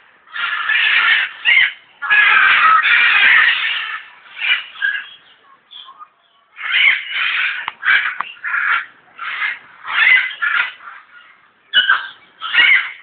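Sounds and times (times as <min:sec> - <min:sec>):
harsh bird squawks: 0:00.3 - 0:13.0.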